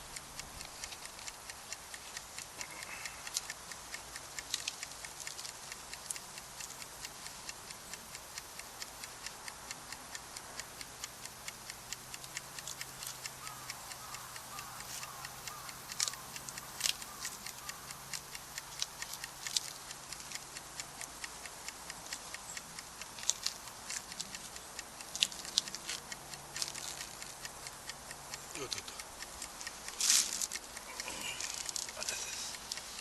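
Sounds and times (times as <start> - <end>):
campfire crackling and popping: 0.0 - 8.4, 12.2 - 33.0.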